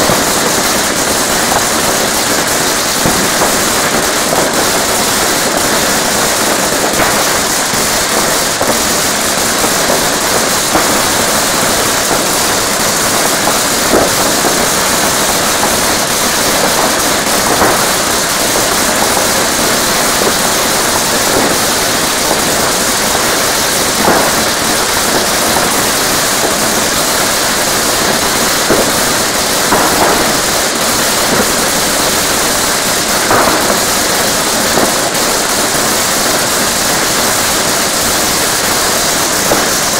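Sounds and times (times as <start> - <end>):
distant firework bangs: 0.0 - 39.9
steady loud hiss: 0.0 - 39.9.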